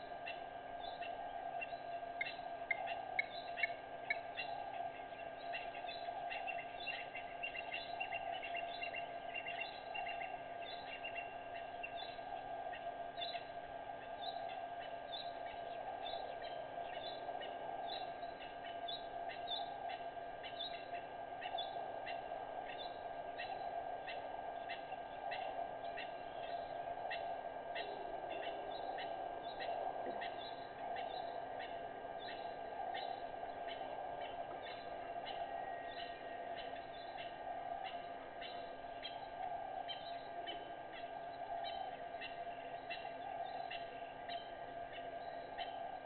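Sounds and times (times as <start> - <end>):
small birds chirping: 0.0 - 46.0
steady background hum: 0.0 - 46.0.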